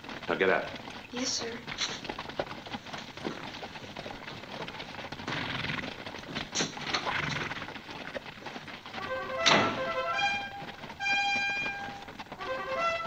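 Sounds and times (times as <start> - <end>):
horses' hooves clattering: 0.0 - 13.0.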